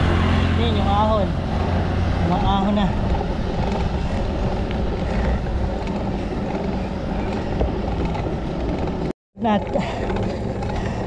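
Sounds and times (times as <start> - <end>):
wind on microphone: 0.0 - 9.1
bicycle road rumble: 0.0 - 11.0.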